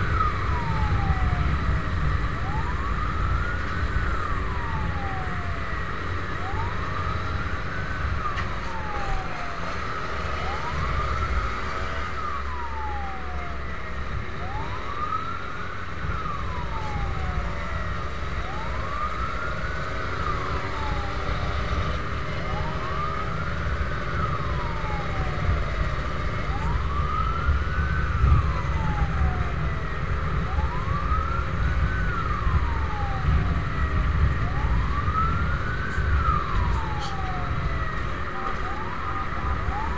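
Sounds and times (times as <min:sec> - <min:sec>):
fire truck siren wailing: 0:00.0 - 0:39.9
wind and road noise rumble: 0:00.0 - 0:39.9.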